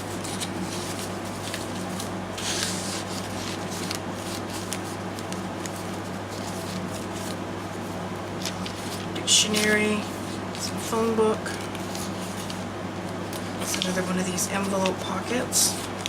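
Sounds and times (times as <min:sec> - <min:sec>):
paper pages rustling: 0:00.0 - 0:12.7, 0:13.3 - 0:16.0
air conditioner hum: 0:00.0 - 0:16.0.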